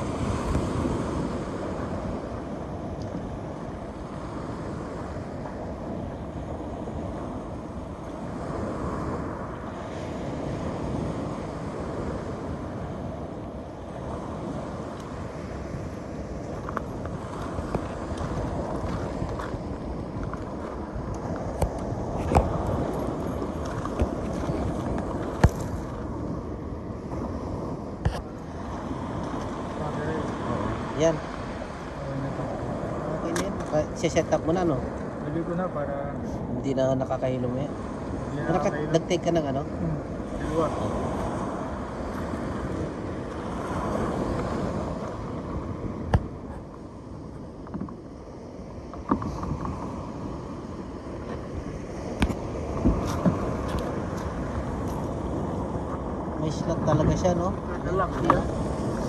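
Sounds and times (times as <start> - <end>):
sea: 0.0 - 59.0
wind buffeting microphone: 0.0 - 59.0.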